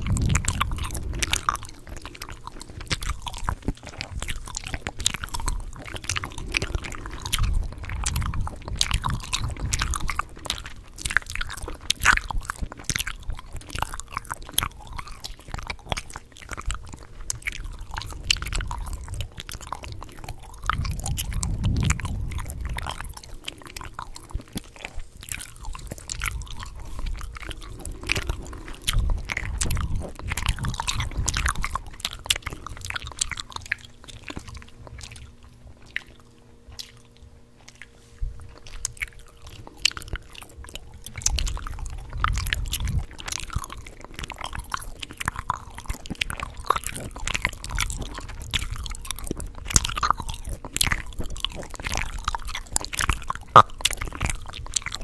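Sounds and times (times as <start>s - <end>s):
low muffled rumble: 0.0s - 14.0s, 14.6s - 53.4s
wet gum chewing smacks: 0.0s - 55.0s.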